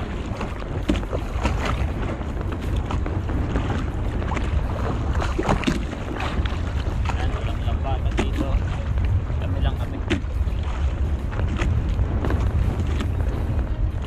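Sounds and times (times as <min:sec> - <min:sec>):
water around boat: 0:00.0 - 0:14.0
wind on microphone: 0:00.0 - 0:14.0.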